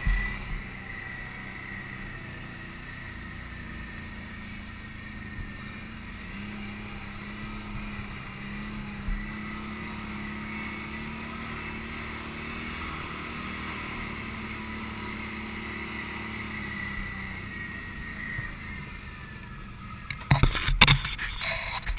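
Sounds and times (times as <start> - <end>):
atv engine running: 0.0 - 21.9.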